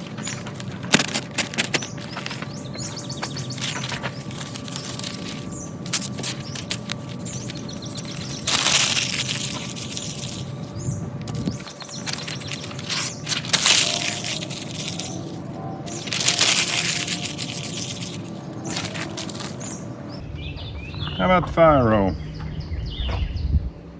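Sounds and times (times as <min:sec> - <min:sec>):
newspaper crackling and rustling: 0:00.0 - 0:20.2.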